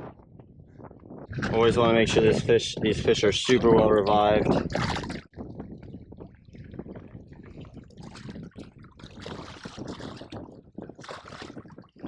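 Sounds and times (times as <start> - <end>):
water sloshing and splashing: 1.3 - 12.0.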